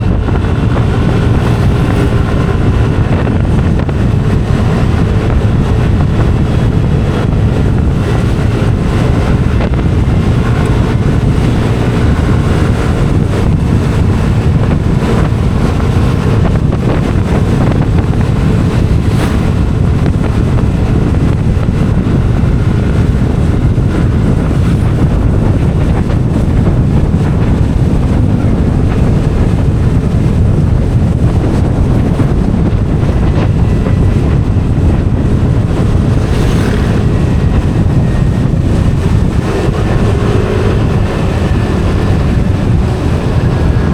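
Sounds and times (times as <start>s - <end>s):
vehicle rumbling: 0.0s - 43.9s
wind buffeting microphone: 0.0s - 43.9s.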